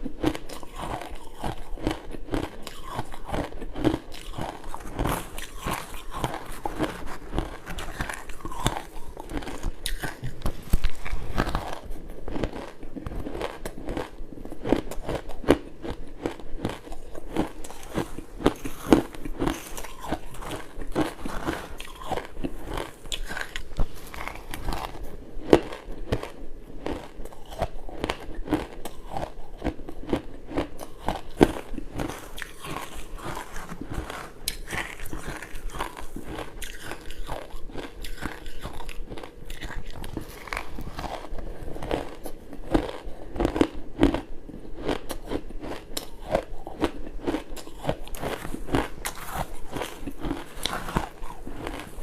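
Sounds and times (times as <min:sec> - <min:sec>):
ice crunching while chewed: 0:00.1 - 0:52.0.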